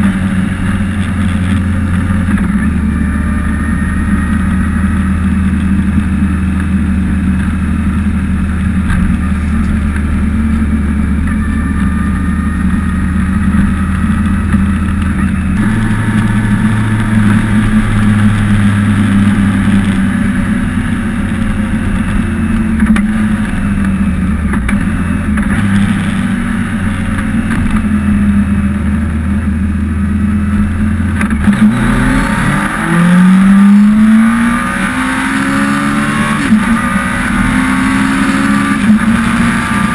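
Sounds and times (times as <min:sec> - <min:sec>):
motorcycle engine revving: 0:00.0 - 0:29.7, 0:30.4 - 0:39.9
motorcycle engine cruising: 0:00.0 - 0:39.9.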